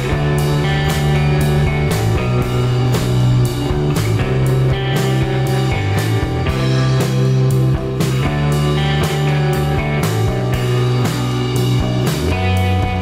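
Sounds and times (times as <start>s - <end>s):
rock music with drum beat: 0.0s - 13.0s.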